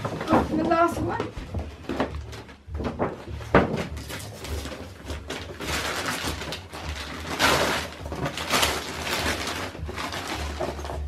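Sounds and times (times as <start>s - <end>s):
wrapping paper tearing and crinkling: 1.8s - 11.0s.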